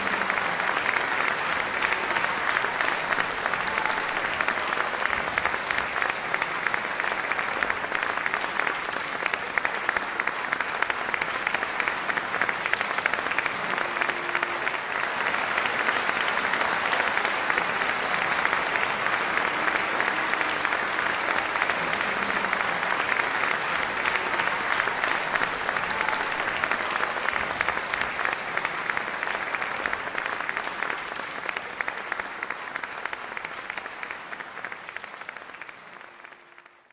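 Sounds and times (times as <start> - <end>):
audience applauding: 0.0 - 36.9.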